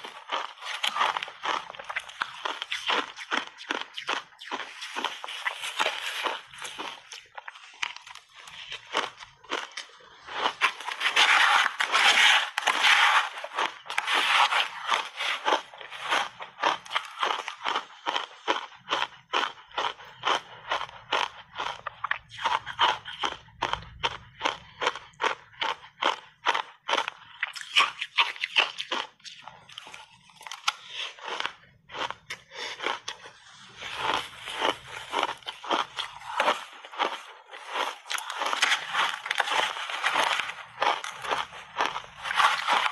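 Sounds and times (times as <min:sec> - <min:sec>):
chewing crunchy ice: 0:00.0 - 0:42.9.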